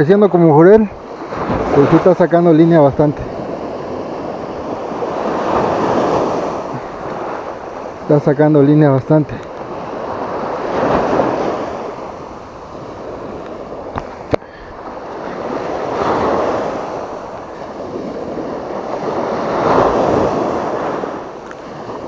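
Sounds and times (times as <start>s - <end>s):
surf washing up a beach: 0.0s - 22.0s.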